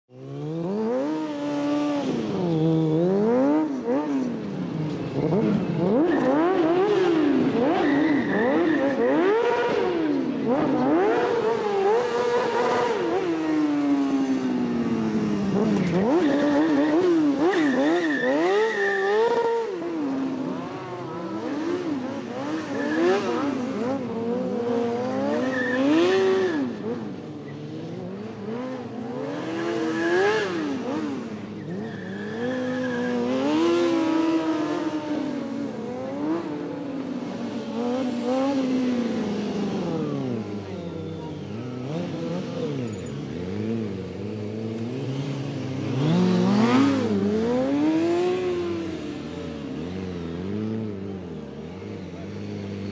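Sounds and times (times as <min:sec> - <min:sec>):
motorcycle engines revving: 0:00.1 - 0:52.9.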